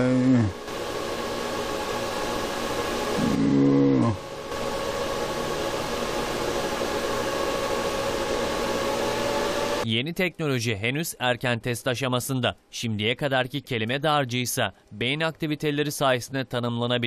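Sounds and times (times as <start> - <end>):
room and equipment hum: 0.0 - 17.0.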